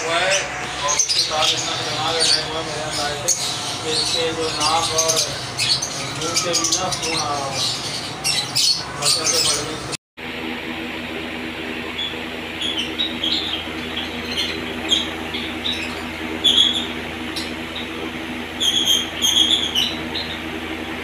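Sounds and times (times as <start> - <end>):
lovebirds chirping: 0.0 - 9.9, 12.0 - 18.0, 18.6 - 20.5
steady low hum: 0.0 - 21.0.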